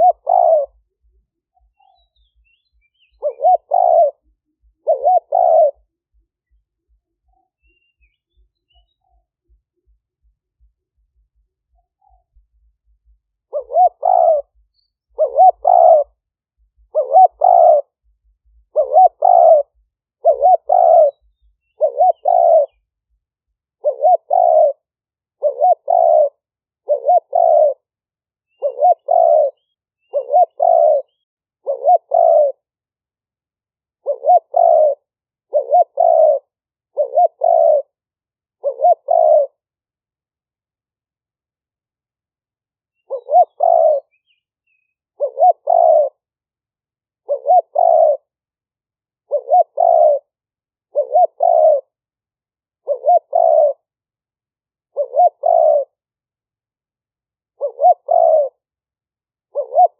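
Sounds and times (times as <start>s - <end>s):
dove cooing: 0.0s - 22.9s, 23.7s - 27.9s, 28.5s - 32.7s, 34.0s - 39.6s, 43.0s - 46.3s, 47.2s - 48.4s, 49.2s - 52.0s, 52.8s - 53.9s, 54.8s - 56.0s, 57.5s - 58.7s, 59.4s - 59.9s.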